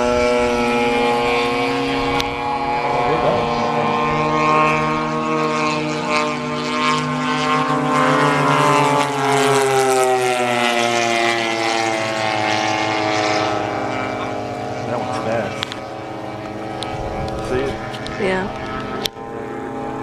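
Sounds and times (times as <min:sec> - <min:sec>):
model airplane engine buzzing: 0:00.0 - 0:20.0.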